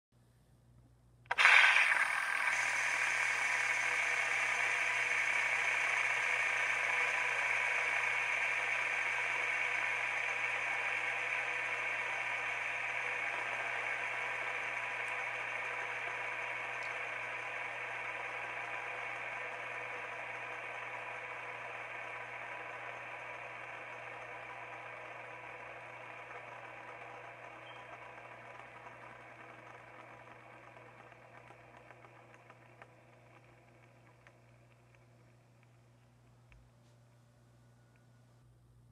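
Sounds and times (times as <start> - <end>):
fidget spinner whirring: 1.3 - 36.5.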